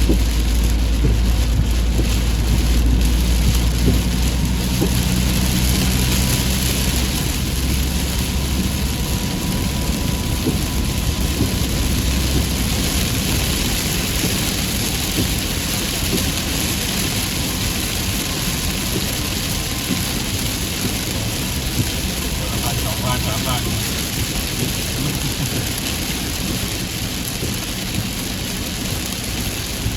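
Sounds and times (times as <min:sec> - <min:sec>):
heavy rain falling: 0:00.0 - 0:29.9
low vehicle engine hum: 0:00.0 - 0:29.9.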